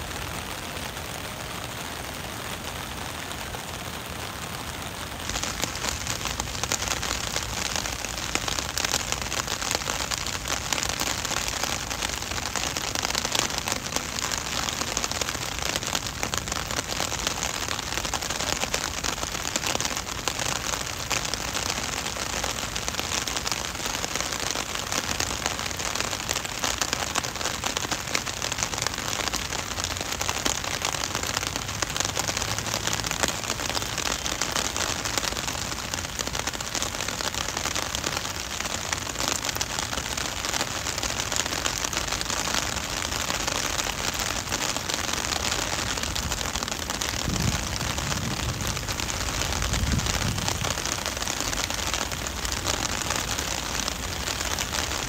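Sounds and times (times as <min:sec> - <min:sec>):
heavy rain on wet pavement: 0:00.0 - 0:55.0.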